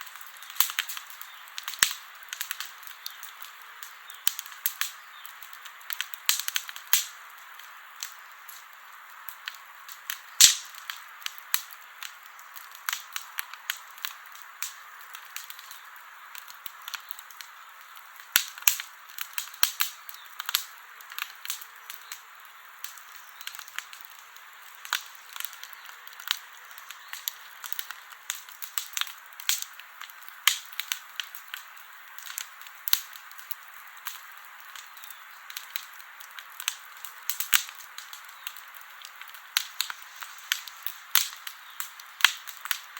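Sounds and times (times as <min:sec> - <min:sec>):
campfire crackling and popping: 0:00.0 - 0:42.9
hiss of flames: 0:00.0 - 0:42.9.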